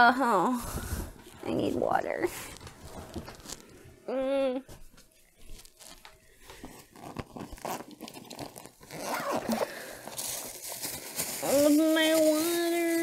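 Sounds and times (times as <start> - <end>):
rustling and crinkling: 0.6 - 4.0, 4.6 - 13.0.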